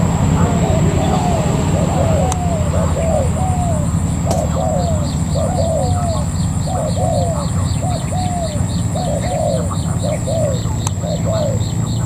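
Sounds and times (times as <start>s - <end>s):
doves cooing: 0.0s - 12.0s
steady high whine: 0.0s - 12.0s.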